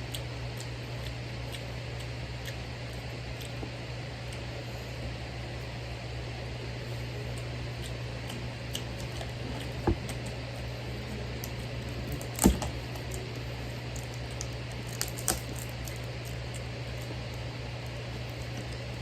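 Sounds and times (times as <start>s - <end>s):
quiet eating: 0.0s - 19.0s
steady low hum: 0.0s - 19.0s.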